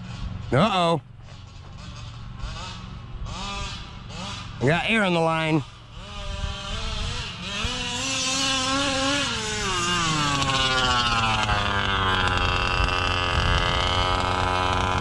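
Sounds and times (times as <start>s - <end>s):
rc car engine revving: 0.0s - 15.0s.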